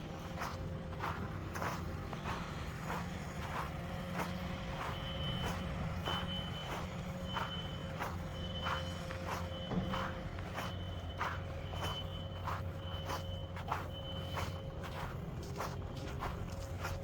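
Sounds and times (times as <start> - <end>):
footsteps: 0.0 - 17.0
low engine hum: 0.0 - 17.0
reversing alarm beeping: 0.0 - 17.0.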